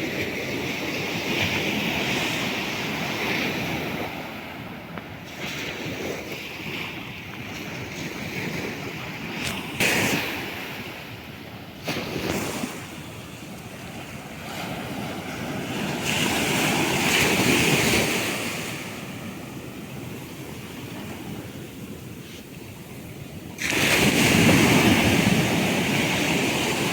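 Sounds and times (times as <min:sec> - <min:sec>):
sea waves washing ashore: 0:00.0 - 0:26.9
wind buffeting microphone: 0:00.0 - 0:26.9.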